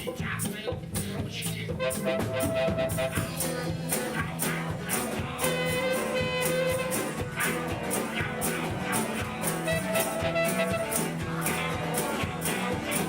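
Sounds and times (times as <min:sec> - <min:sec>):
bass line: 0:00.0 - 0:13.0
drums keeping a steady beat: 0:00.0 - 0:13.0
held melody notes: 0:01.8 - 0:13.0.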